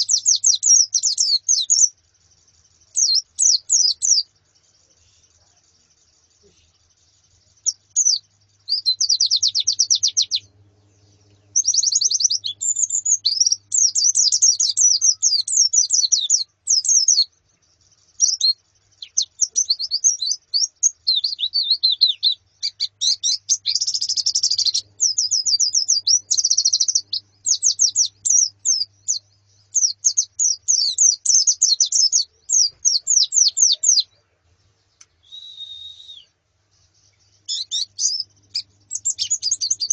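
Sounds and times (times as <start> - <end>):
birds chirping in a flock: 0.0 - 39.9.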